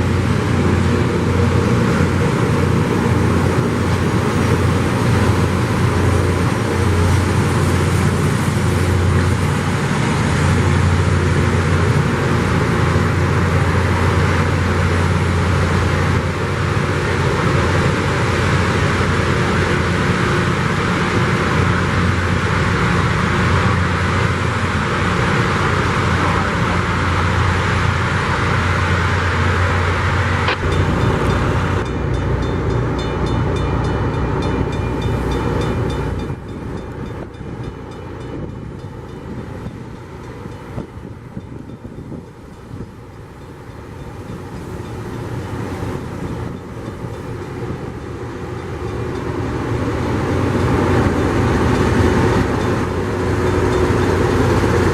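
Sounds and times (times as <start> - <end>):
diesel engines droning: 0.0 - 54.9.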